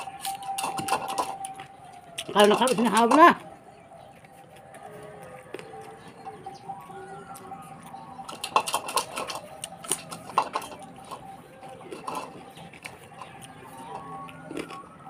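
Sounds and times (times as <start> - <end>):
chewing with crunchy clicks: 0.0 - 15.0.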